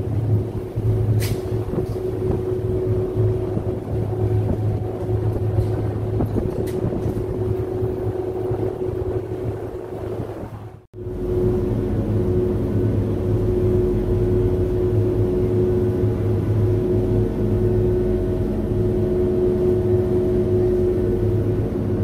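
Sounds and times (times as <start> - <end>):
ferry engines droning: 0.0 - 22.0.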